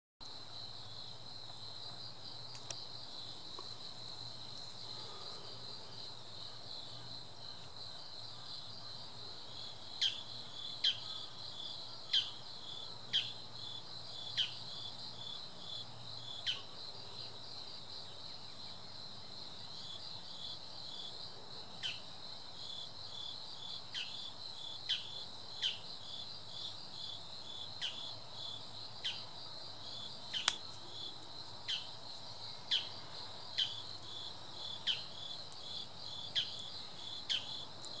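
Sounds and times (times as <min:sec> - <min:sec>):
insects chorus: 0:00.2 - 0:38.0.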